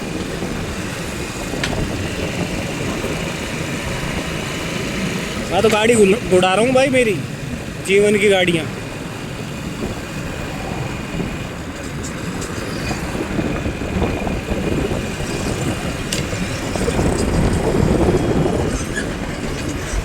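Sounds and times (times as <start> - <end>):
motorcycle engine: 0.0 - 20.0
wind rumble on microphone: 0.0 - 20.0.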